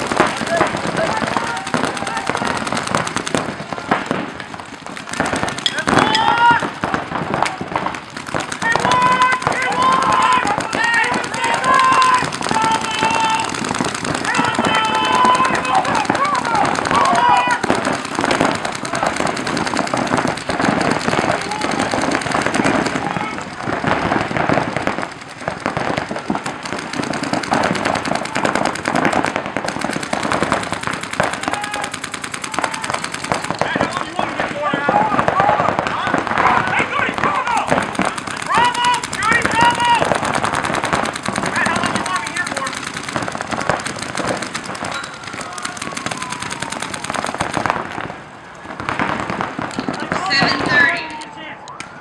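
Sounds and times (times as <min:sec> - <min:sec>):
paintball guns firing rapidly: 0:00.0 - 0:51.2.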